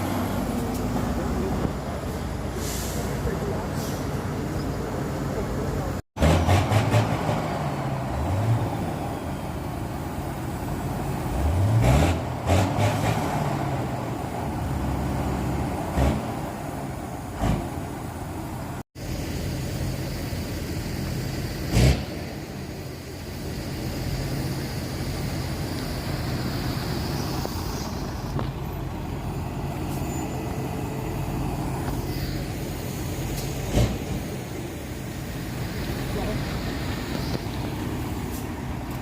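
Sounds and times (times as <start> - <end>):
truck diesel engines accelerating: 0.0 - 39.0.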